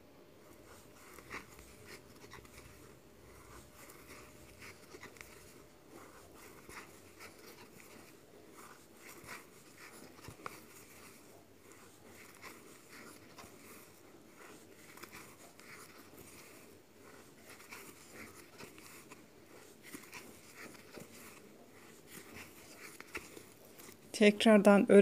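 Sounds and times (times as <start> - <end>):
crochet hook scratching yarn: 0.4 - 24.1.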